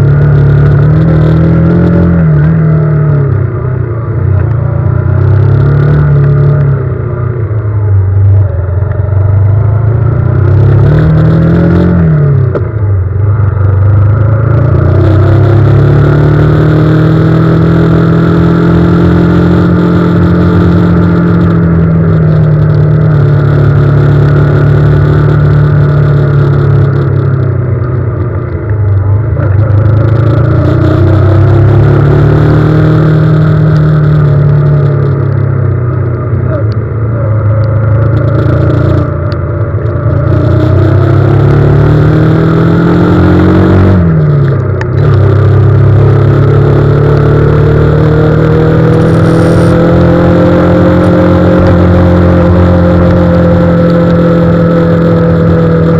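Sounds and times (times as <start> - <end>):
vehicle engine revving: 0.0 - 55.9.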